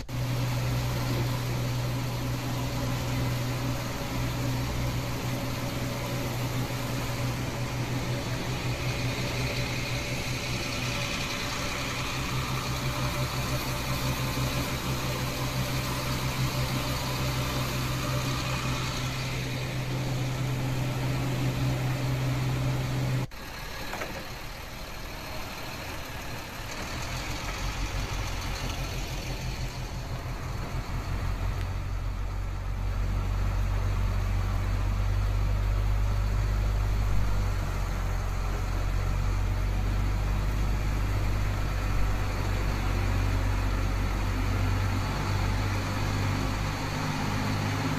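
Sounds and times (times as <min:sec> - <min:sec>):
engine running with pulsing hum: 0:00.0 - 0:47.9.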